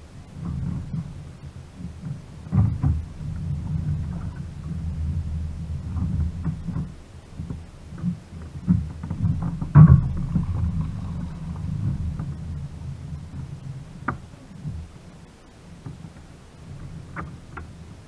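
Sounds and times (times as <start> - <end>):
wind noise: 0.0 - 18.0.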